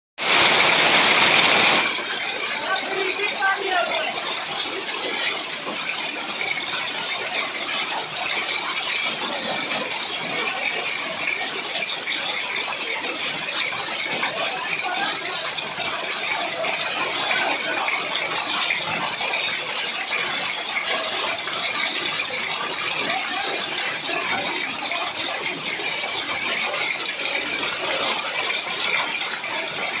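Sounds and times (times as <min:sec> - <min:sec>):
rain falling: 0:00.2 - 0:30.0.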